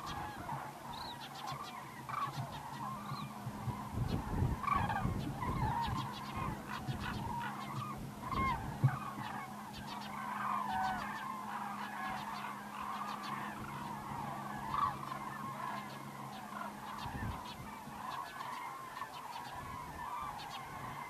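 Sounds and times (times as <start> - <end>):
cranes calling in flight: 0.0 - 21.0.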